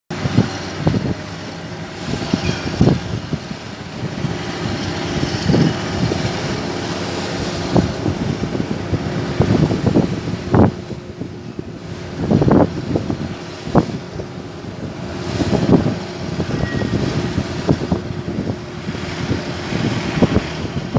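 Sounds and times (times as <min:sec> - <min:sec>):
crane machinery hum: 0:00.1 - 0:20.9
wind buffeting microphone: 0:00.1 - 0:20.9.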